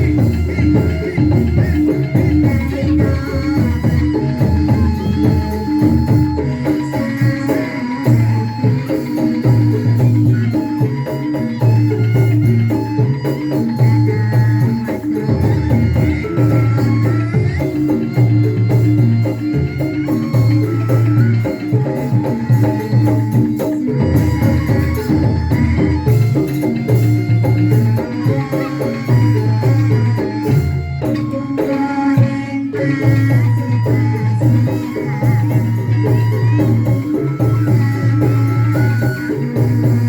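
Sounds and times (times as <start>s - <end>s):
live band music: 0.0s - 40.0s.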